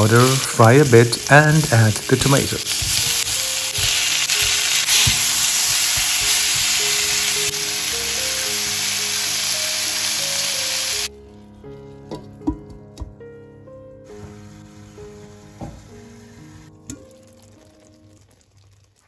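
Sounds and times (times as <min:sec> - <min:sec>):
vegetables sizzling in oil: 0:00.0 - 0:11.1, 0:14.1 - 0:19.0
background music: 0:00.0 - 0:19.0.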